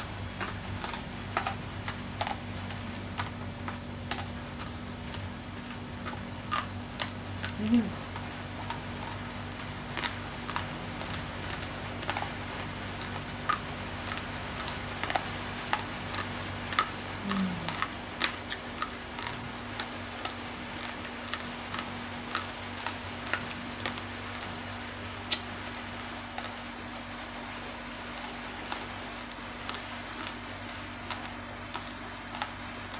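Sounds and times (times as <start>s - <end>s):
low hum: 0.0s - 32.9s
rice crunching between teeth: 0.0s - 32.9s.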